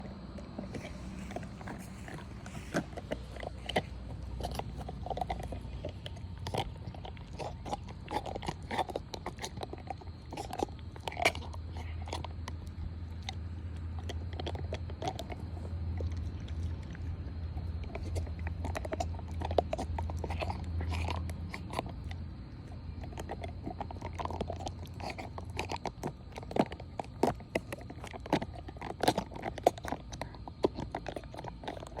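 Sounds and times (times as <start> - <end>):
dog chewing a toy: 0.0 - 32.0
steady low hum: 0.0 - 32.0.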